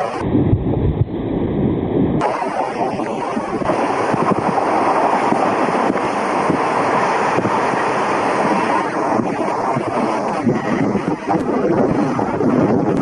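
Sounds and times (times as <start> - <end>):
train running rumble: 0.0 - 13.0
wind rushing over microphone: 0.0 - 13.0.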